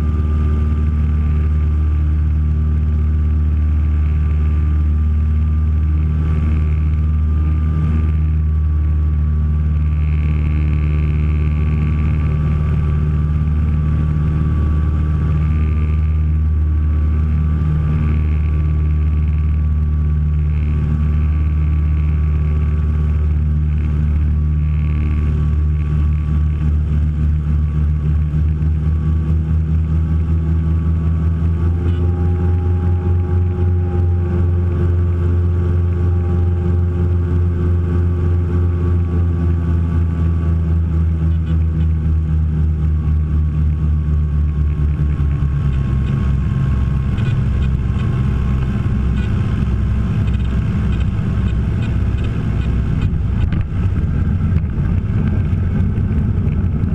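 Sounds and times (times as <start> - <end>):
twin piston aircraft engines droning: 0.0 - 56.9.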